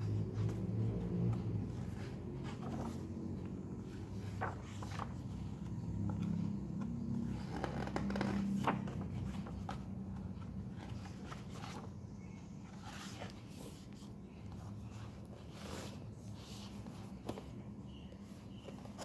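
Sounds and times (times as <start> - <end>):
book pages turning: 0.0 - 19.0.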